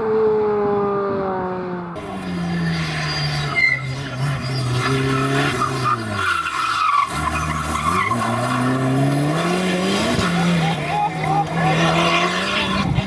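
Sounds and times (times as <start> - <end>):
rally car engine: 0.0 - 13.0
tyres skidding: 2.0 - 13.0.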